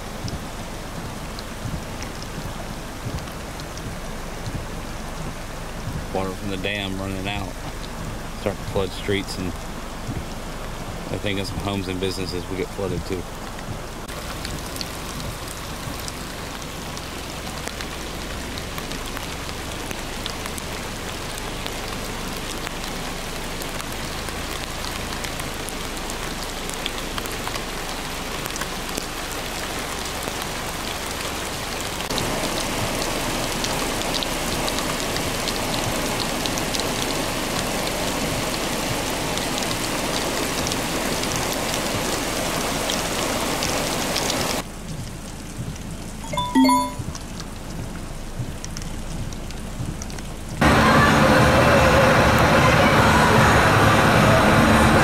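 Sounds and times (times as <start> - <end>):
heavy rain on floodwater: 0.0 - 55.0.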